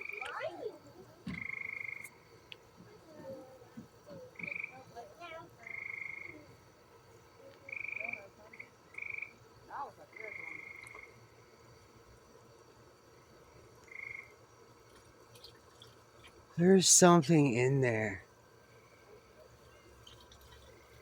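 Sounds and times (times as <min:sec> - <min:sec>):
frogs trilling: 0:00.0 - 0:21.0.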